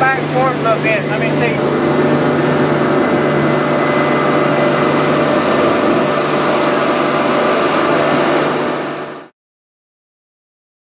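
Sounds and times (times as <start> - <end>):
outboard engines humming: 0.0 - 9.3.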